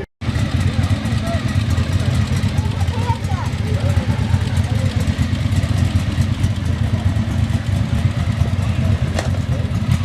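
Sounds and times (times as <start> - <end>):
motorcycle engine idling: 0.2 - 10.0.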